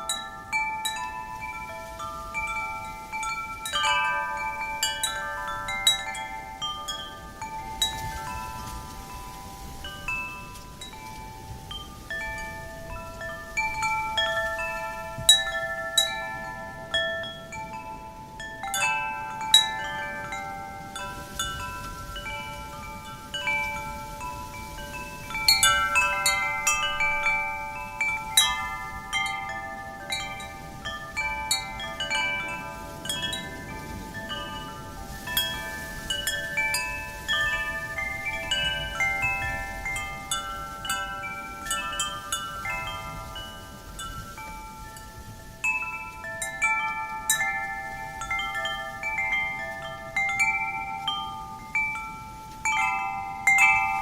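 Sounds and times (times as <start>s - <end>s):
low rush of wind: 0.0s - 54.0s
metal wind chimes ringing: 0.0s - 54.0s.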